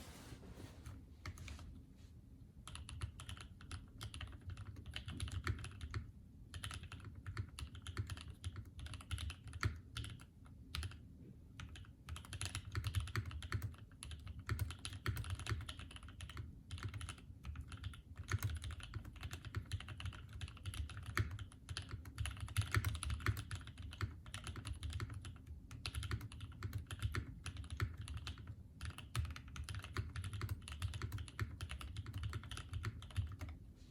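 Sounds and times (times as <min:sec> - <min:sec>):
typing on mechanical keyboard: 0:02.6 - 0:11.0, 0:11.6 - 0:33.6.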